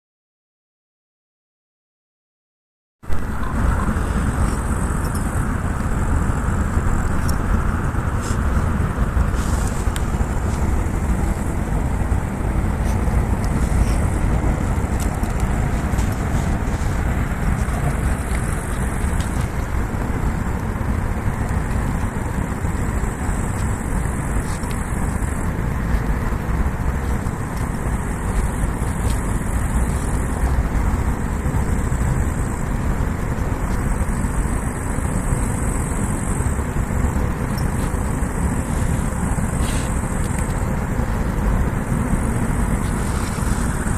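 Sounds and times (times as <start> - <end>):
low rumble: 3.0 - 43.9
grasshoppers buzzing: 3.2 - 43.9.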